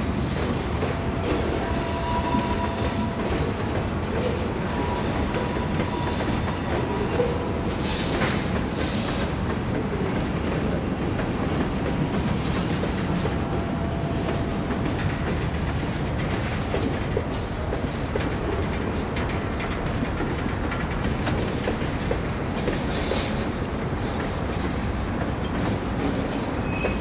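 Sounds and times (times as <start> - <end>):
steel wheels rumbling on rail: 0.0 - 27.0.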